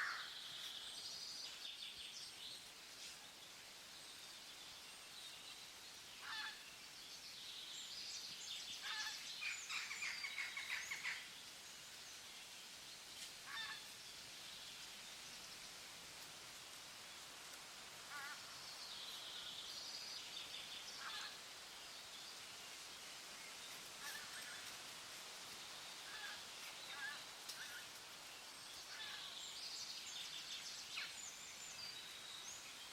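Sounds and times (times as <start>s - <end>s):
faint outdoor hiss: 0.0s - 32.9s.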